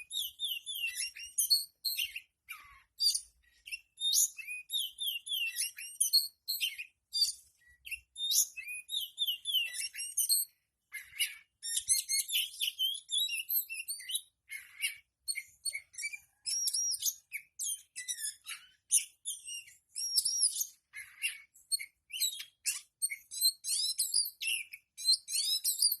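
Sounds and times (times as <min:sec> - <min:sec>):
bird singing whistles and chirps: 0:00.0 - 0:26.0.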